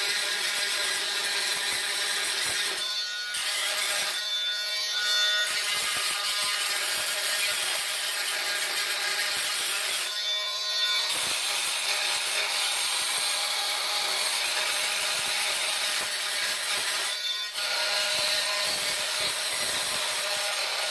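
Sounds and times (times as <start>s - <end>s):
multi-tool grinding grout: 0.0s - 20.9s.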